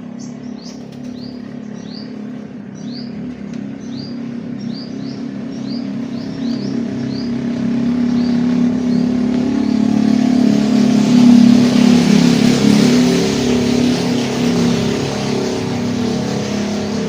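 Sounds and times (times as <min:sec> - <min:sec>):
vehicle engine passing by: 0:00.0 - 0:17.0.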